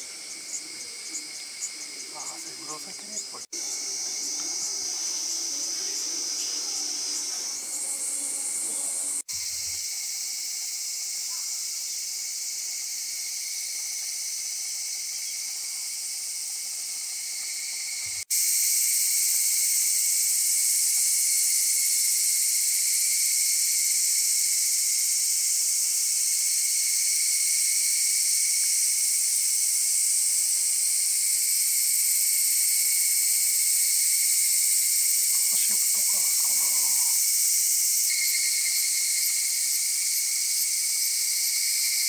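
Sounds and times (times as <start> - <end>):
cicadas calling: 0.0 - 42.0.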